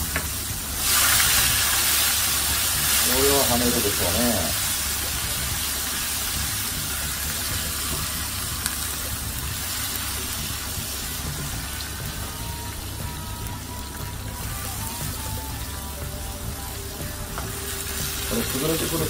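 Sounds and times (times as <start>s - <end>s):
onion sizzling in a frying pan: 0.0s - 19.0s.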